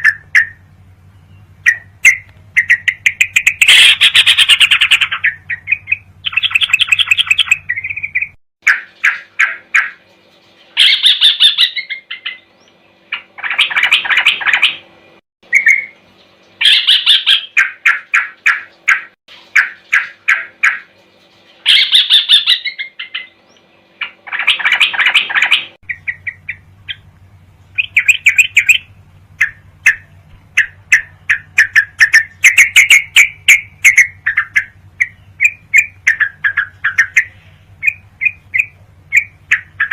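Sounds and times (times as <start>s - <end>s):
bulbul chattering song: 0.0s - 39.9s
faint background hum: 0.0s - 39.9s.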